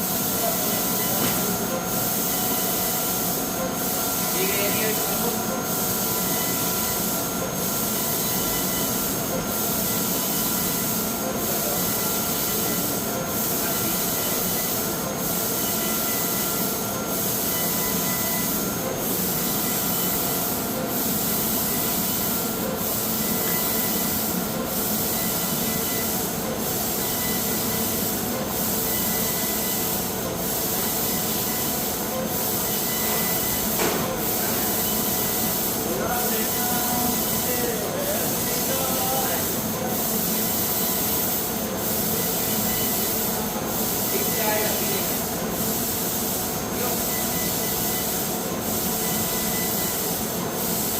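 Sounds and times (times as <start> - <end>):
laser cutter high hiss: 0.0 - 50.9.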